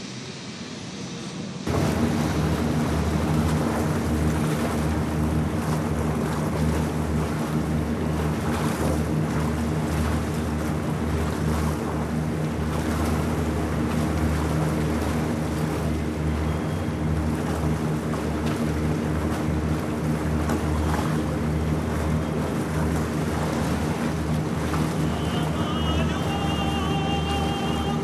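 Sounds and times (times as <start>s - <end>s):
ferry engine droning: 0.0s - 28.0s
wind: 0.0s - 28.0s
rushing water: 1.7s - 28.0s.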